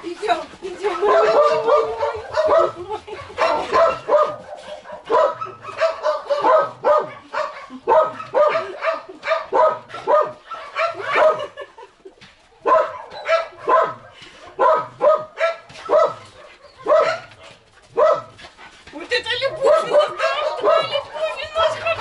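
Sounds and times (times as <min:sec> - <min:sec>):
dogs yelping and barking: 0:00.8 - 0:11.7, 0:12.5 - 0:18.7, 0:19.3 - 0:22.0.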